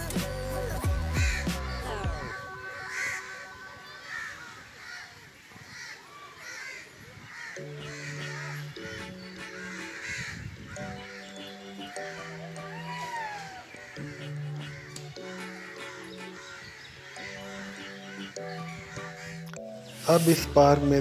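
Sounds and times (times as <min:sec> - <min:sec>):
background music with held notes: 0:00.0 - 0:04.9, 0:07.1 - 0:21.0
crows cawing: 0:00.9 - 0:20.4.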